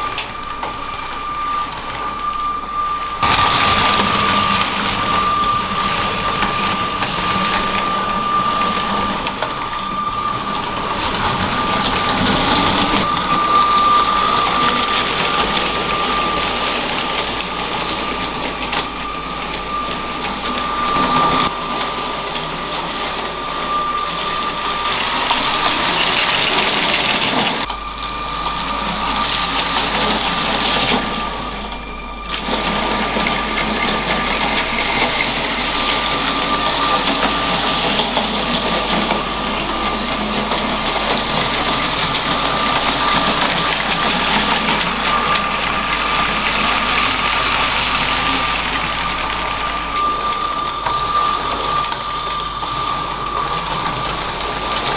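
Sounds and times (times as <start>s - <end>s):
toy train electric motor whine: 0.0s - 54.9s
wheels and gears rattling: 0.0s - 54.9s.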